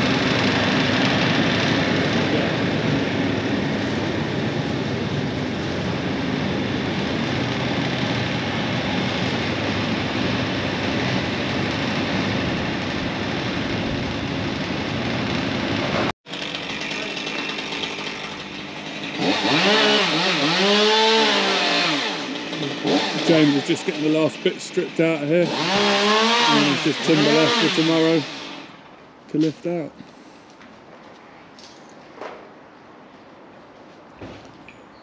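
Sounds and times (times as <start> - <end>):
chainsaw revving: 0.0 - 28.9
engine running steadily: 0.0 - 29.6.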